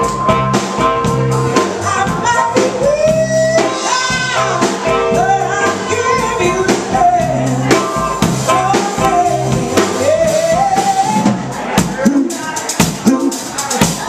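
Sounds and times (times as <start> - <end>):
drum kit: 0.0 - 14.0
electric bass guitar: 0.0 - 14.0
person singing: 0.0 - 14.0.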